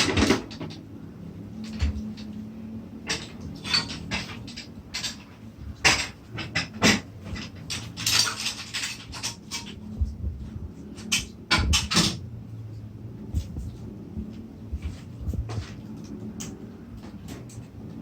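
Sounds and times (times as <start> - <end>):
sharp knocks clicks and rattles: 0.0 - 12.3, 13.3 - 18.0
low steady hum: 0.0 - 18.0.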